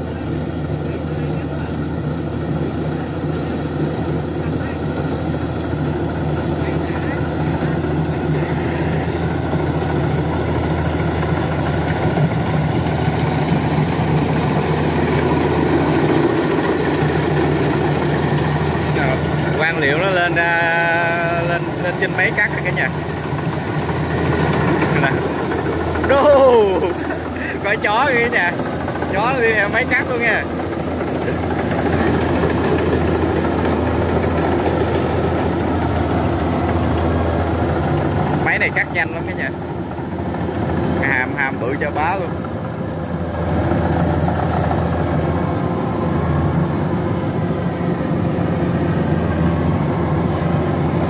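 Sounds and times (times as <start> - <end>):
diesel engine hum: 0.0 - 51.0.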